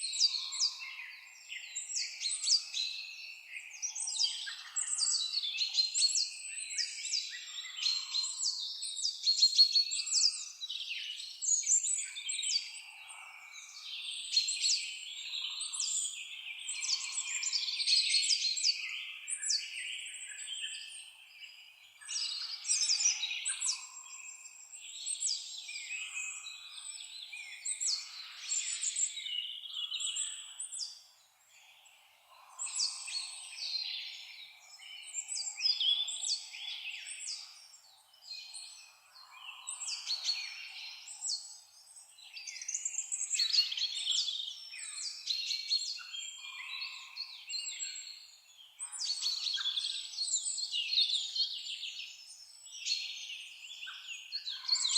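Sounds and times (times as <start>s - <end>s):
songbirds chirping and singing: 0.0s - 54.9s.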